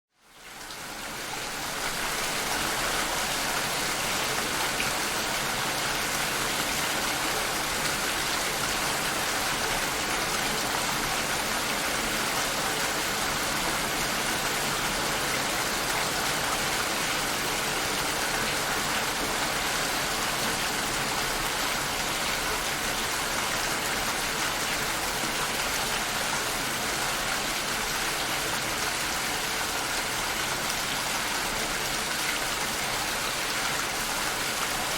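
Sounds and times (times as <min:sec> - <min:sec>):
steady rain hissing: 0:00.1 - 0:34.9.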